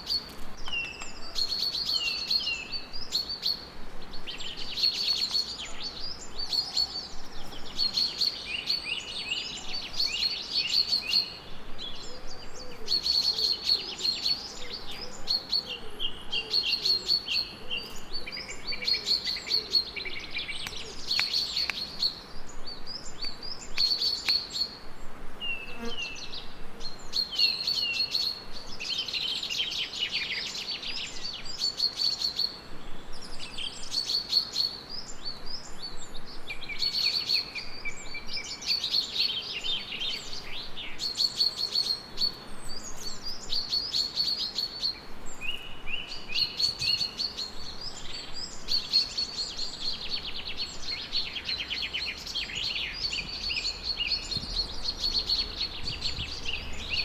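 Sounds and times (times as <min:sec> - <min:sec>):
lower warbling birdsong: 0:00.0 - 0:57.0
songbirds chirping and trilling: 0:00.0 - 0:57.0.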